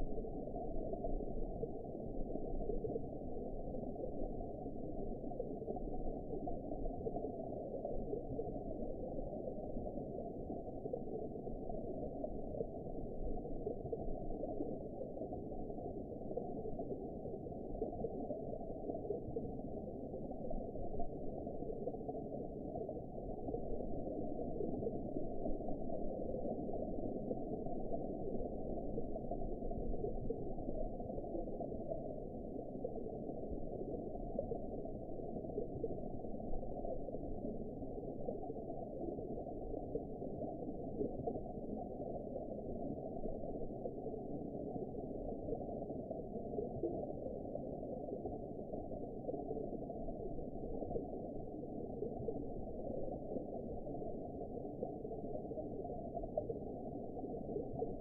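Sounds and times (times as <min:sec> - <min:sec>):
muffled underwater rushing: 0:00.0 - 0:58.0.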